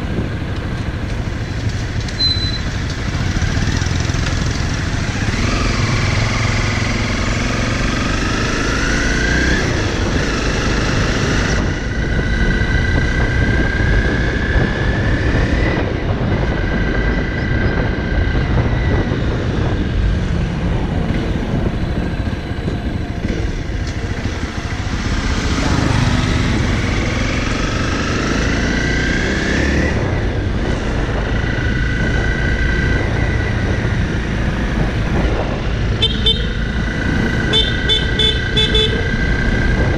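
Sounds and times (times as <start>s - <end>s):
constant low rush: 0.0s - 39.9s
motorcycle engine accelerating: 0.0s - 39.9s.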